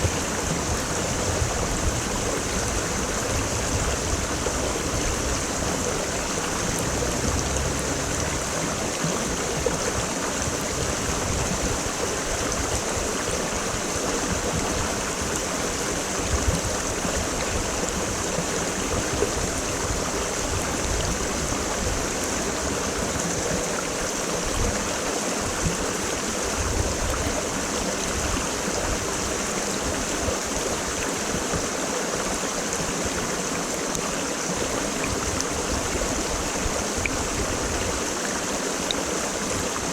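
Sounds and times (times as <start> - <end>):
stream running over rocks: 0.0 - 39.9
water splashes and gurgles: 0.0 - 39.9.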